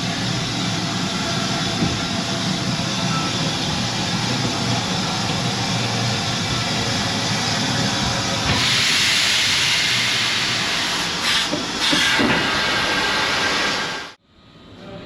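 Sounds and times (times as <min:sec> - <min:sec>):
steam locomotive venting steam: 0:00.0 - 0:14.2.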